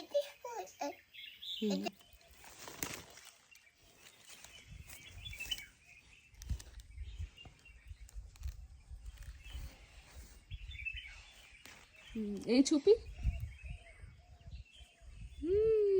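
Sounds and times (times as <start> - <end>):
faint bird chirps: 0.0 - 15.9.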